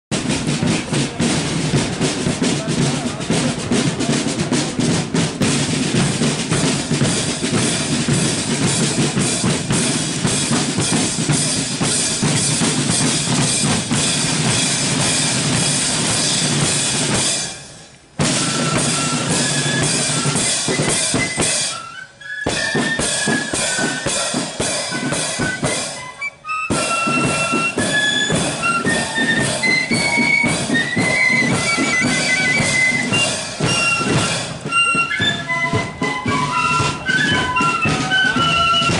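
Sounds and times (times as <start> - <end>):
snare and bass drums: 0.1 - 38.9
flutes playing a tune: 0.5 - 17.1, 18.2 - 38.9.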